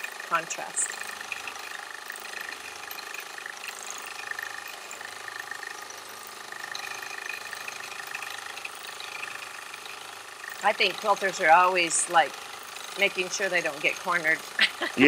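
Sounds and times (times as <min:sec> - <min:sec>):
quilting machine humming: 0:00.0 - 0:15.0.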